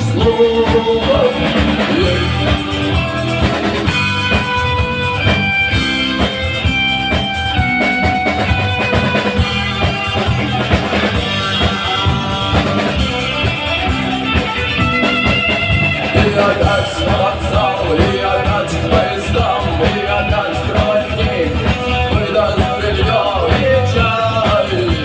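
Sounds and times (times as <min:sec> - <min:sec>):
bass guitar: 0:00.0 - 0:25.0
drum kit beat: 0:00.0 - 0:25.0
rock guitar melody: 0:00.0 - 0:25.0.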